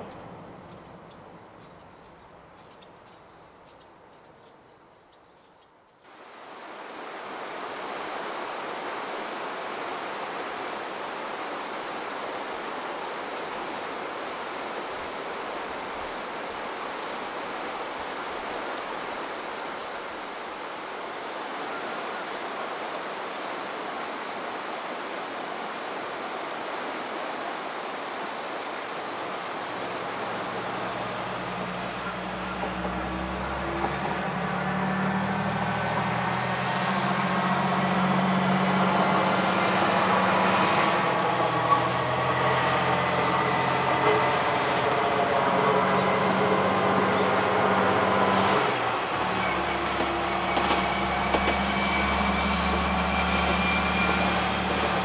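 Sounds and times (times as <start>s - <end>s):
train: 0.0s - 55.0s
river water flowing: 6.0s - 55.0s.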